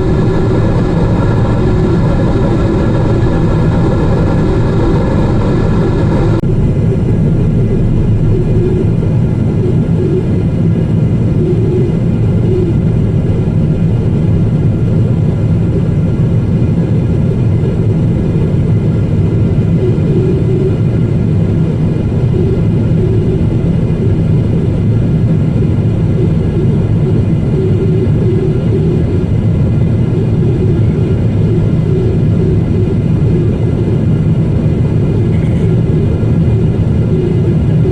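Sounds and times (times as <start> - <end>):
faint steady tones: 0.0 - 14.2, 14.8 - 37.9
airliner cabin engine rumble: 0.0 - 37.9.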